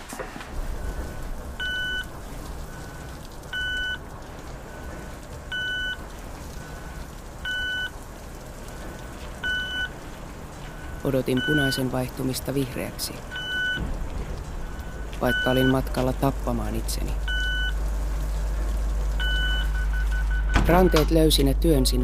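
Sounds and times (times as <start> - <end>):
wet street hiss and rumble: 0.0 - 22.0
crossing signal beeping: 0.7 - 8.0, 8.7 - 18.5, 19.1 - 21.9.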